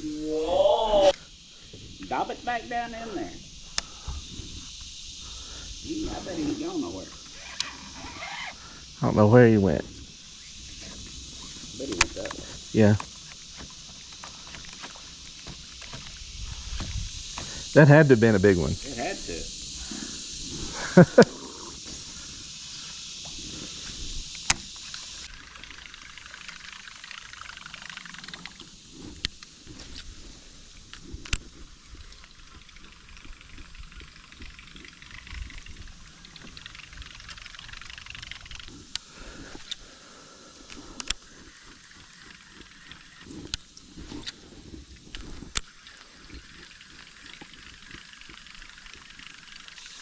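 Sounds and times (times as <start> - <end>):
faint water sounds: 0.0 - 50.0
high insect buzz: 0.0 - 50.0.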